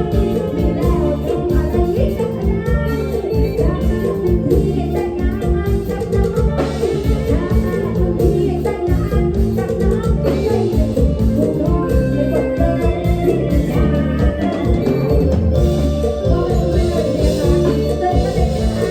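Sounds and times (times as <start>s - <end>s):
bass guitar: 0.0s - 18.9s
electric guitar: 0.0s - 18.9s
steady drum beat: 0.0s - 18.9s.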